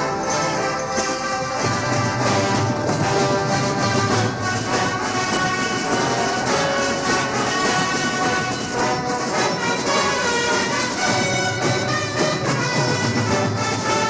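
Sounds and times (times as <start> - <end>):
marching drums: 0.0 - 14.0
wind instruments playing tune: 0.0 - 14.0.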